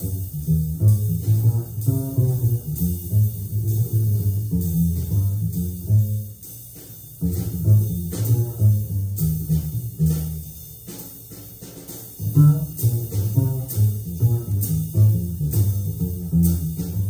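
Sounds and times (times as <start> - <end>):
plucked double bass: 0.0 - 6.4, 7.2 - 10.9, 12.0 - 17.0.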